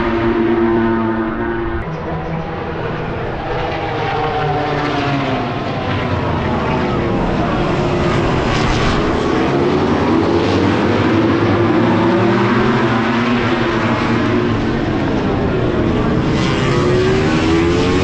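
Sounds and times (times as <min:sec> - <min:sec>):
racing motorcycle engine revving: 0:00.0 - 0:18.0.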